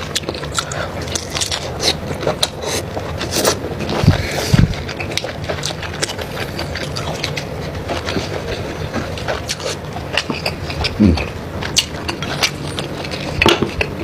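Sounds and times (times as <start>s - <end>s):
chewing and cracking prawn shell: 0.0s - 14.0s
steady low rumble: 0.0s - 14.0s.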